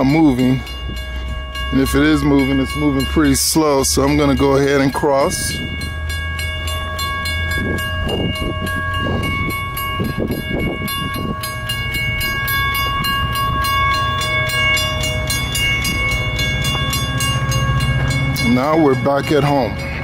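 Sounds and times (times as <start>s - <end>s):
low train rumble: 0.0s - 20.0s
railroad crossing signal ringing: 0.0s - 20.0s.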